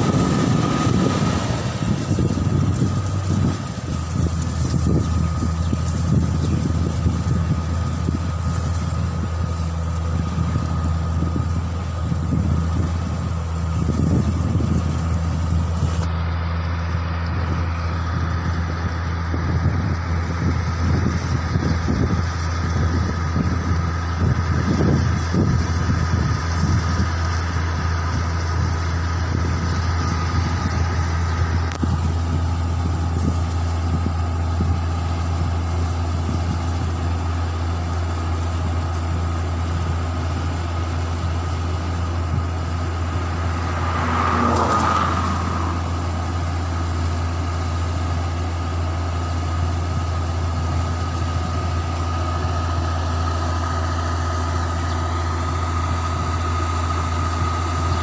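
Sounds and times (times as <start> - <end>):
diesel engine droning with whine: 0.0 - 58.0.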